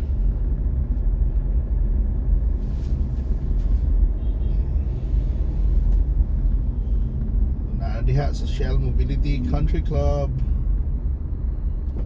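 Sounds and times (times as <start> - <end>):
car driving in traffic: 0.0 - 12.0.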